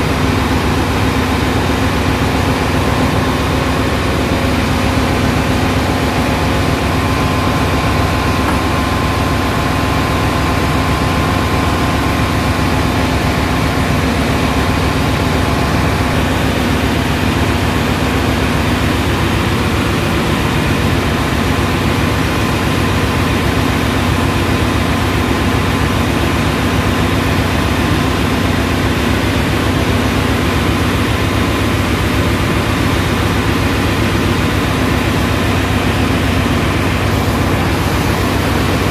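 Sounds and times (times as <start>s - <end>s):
engine room machinery din: 0.0s - 38.9s.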